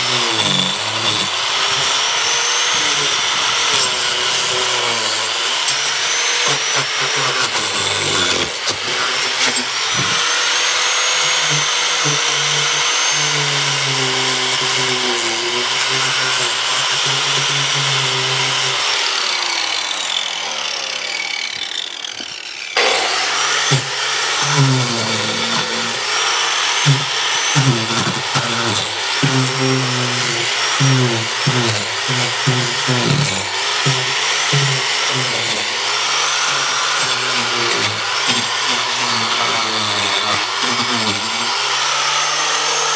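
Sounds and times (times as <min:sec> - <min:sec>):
power tool cutting wood: 0:00.0 - 0:42.9.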